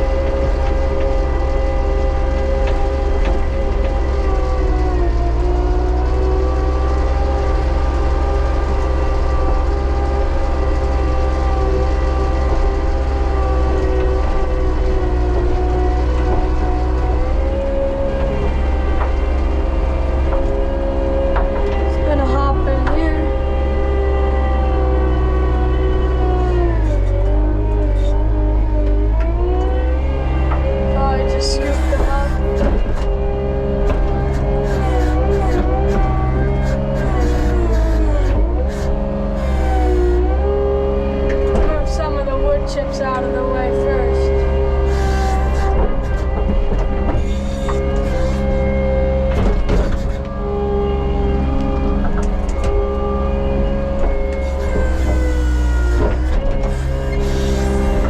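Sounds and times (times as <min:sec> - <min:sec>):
diesel engine running: 0:00.0 - 0:58.0
engine whine: 0:00.0 - 0:58.0.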